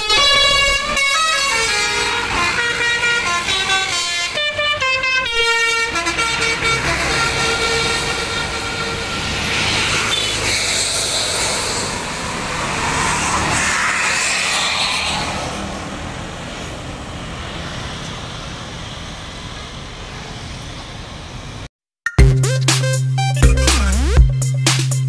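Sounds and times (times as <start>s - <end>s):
vehicles passing: 0.0s - 21.7s.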